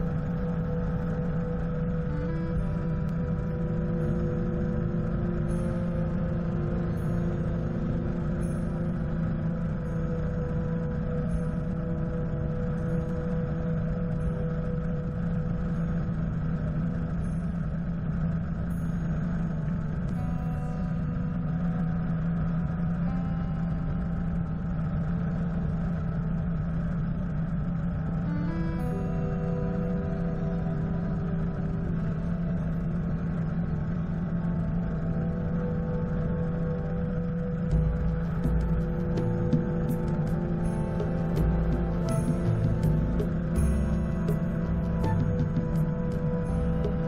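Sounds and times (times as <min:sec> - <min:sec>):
faint sustained musical tones: 0:00.0 - 0:47.0
helicopter engine and rotor drone: 0:00.0 - 0:47.0.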